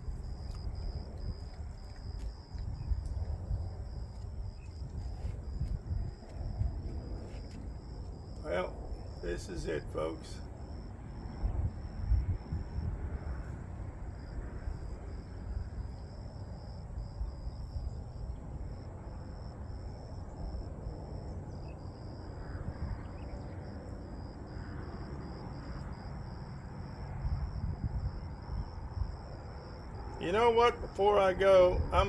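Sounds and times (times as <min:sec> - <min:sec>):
insect chirping: 0:00.0 - 0:32.0
wind rumble on microphone: 0:00.0 - 0:32.0.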